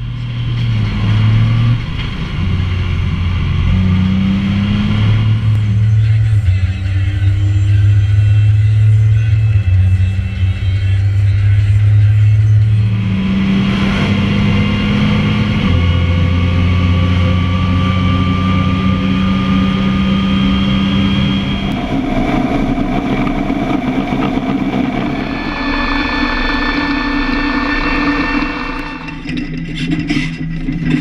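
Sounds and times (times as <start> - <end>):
rising drivetrain whine: 0.0 - 31.0
tractor engine running: 5.2 - 31.0.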